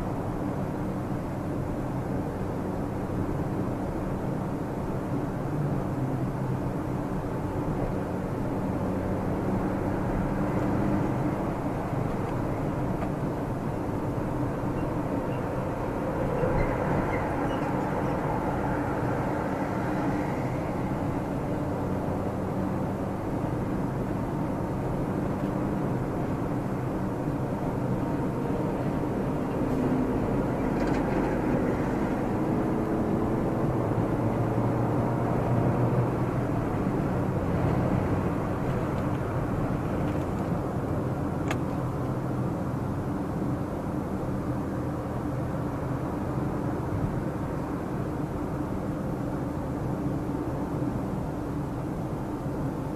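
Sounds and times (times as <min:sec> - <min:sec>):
car engine: 0:00.0 - 0:52.9
tyre road noise: 0:00.0 - 0:52.9.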